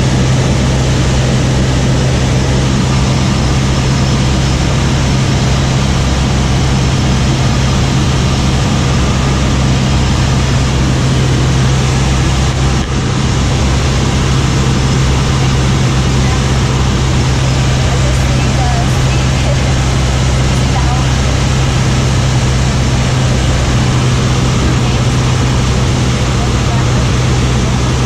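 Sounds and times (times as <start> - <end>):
light aircraft engine droning: 0.0 - 28.0.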